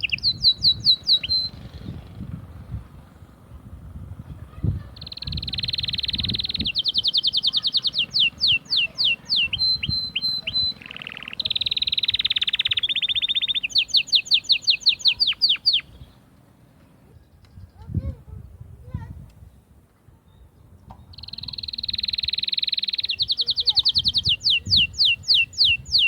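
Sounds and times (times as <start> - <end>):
canary singing: 0.0 - 3.6, 4.6 - 16.4, 20.3 - 26.0.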